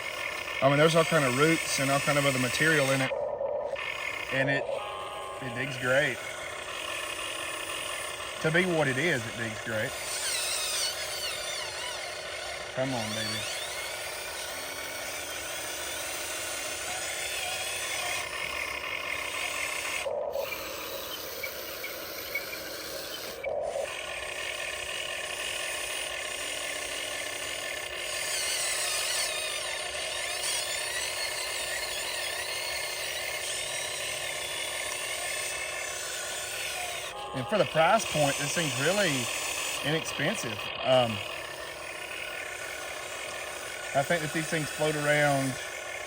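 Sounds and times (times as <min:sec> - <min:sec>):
toy excavator motors whining: 0:00.0 - 0:46.0.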